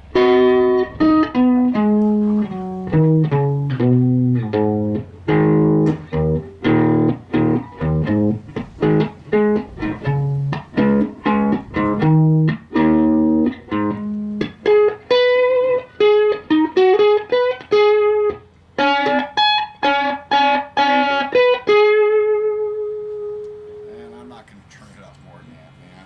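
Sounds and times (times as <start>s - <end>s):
electric guitar single notes: 0.0s - 24.4s.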